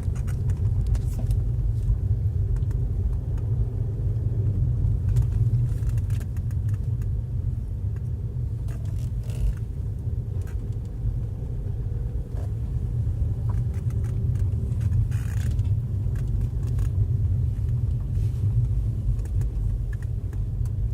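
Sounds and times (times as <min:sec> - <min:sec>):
car engine low rumble: 0:00.0 - 0:20.9.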